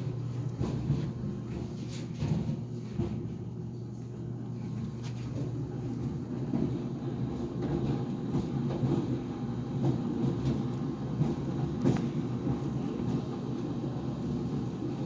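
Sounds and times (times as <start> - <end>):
clothes dryer drum rumbling: 0.0 - 15.0.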